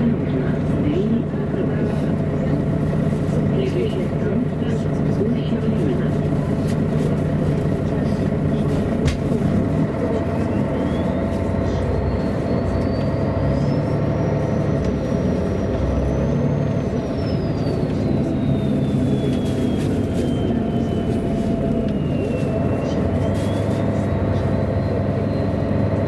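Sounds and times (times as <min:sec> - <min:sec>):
bus diesel engine: 0:00.0 - 0:26.0
road noise: 0:00.0 - 0:26.0.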